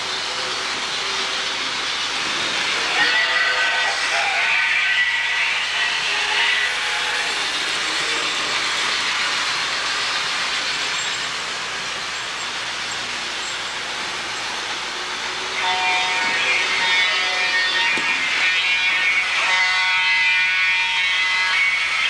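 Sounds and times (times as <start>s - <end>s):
model trains whirring rumble: 0.0s - 22.0s.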